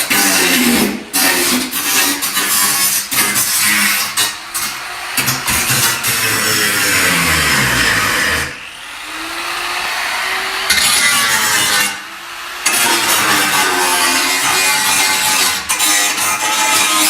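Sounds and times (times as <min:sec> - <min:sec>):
handheld power tool running: 0:01.7 - 0:17.0.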